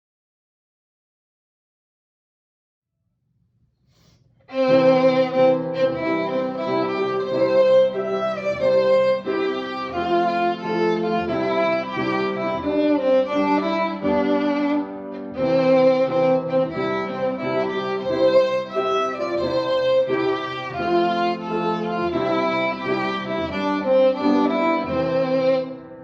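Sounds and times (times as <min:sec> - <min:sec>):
violin sustained bowed notes: 0:04.5 - 0:25.9.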